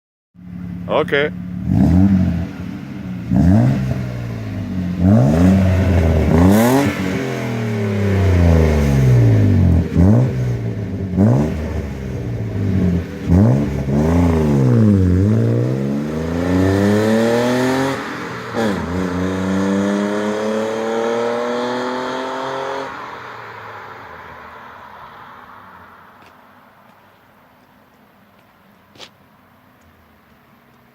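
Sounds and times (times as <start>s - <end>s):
car engine revving: 0.4s - 26.3s.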